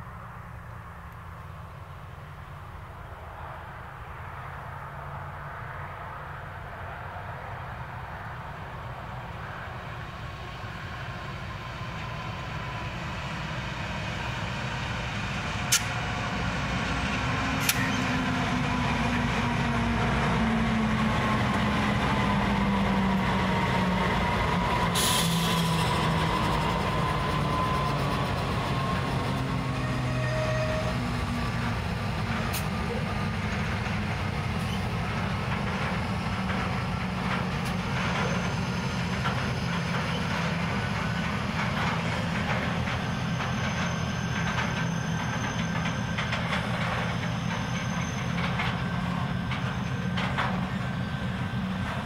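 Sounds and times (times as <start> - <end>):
diesel locomotive engines: 0.0 - 52.0.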